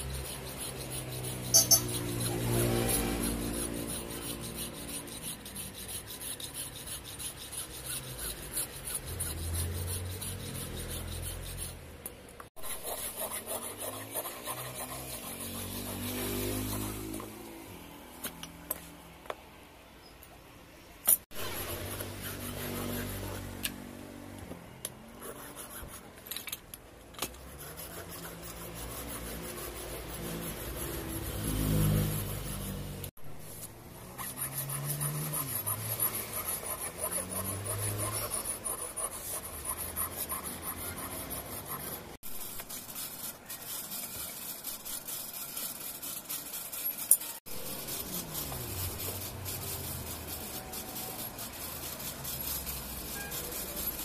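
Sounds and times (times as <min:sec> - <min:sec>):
file rasping on steel: 0:00.0 - 0:11.9, 0:12.6 - 0:17.7, 0:21.3 - 0:23.6, 0:25.2 - 0:26.1, 0:27.2 - 0:54.0.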